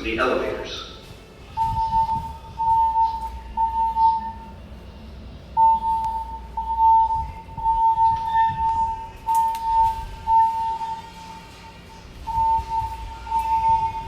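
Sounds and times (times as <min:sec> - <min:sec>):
fire alarm beeps: 0:00.0 - 0:14.0
low hum: 0:00.0 - 0:14.0.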